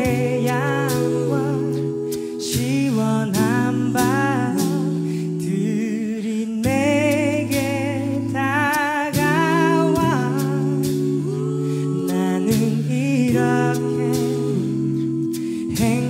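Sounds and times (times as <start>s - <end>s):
song with vibrato singing: 0.0s - 16.0s.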